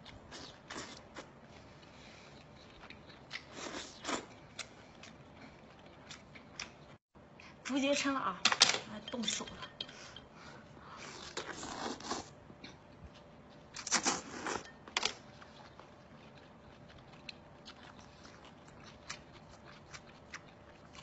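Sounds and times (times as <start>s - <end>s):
faint chewing: 0.0s - 7.6s, 10.1s - 21.0s.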